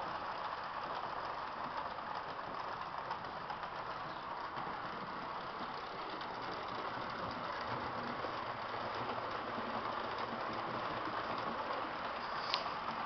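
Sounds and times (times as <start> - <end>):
model train motors whirring: 0.0 - 13.0.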